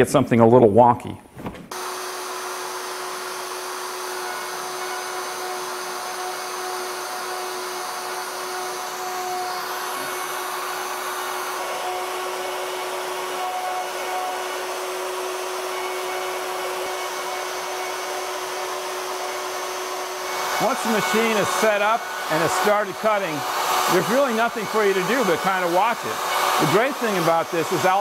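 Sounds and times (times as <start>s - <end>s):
router bit carving wood: 1.7s - 28.0s
router motor whining: 1.7s - 28.0s.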